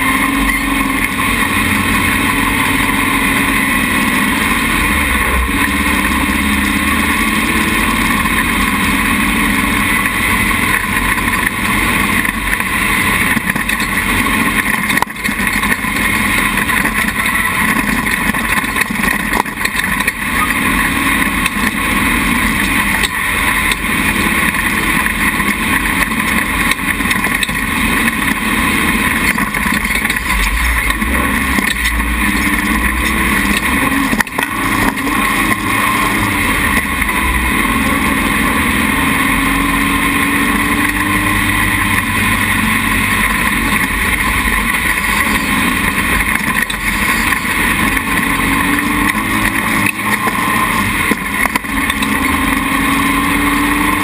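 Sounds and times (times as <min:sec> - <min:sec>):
dune buggy engine running: 0:00.0 - 0:54.0.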